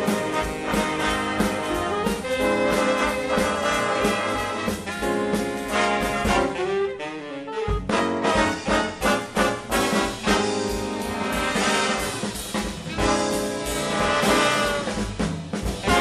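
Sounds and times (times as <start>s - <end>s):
swing big band playing: 0.0s - 16.0s.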